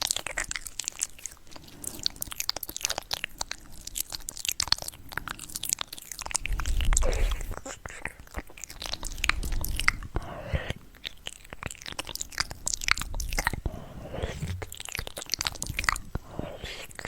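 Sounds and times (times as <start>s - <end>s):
crunchy fruit chewing: 0.0s - 17.0s.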